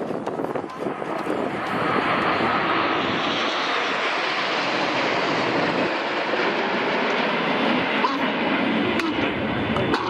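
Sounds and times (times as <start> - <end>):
jet roar overhead: 0.0 - 10.0.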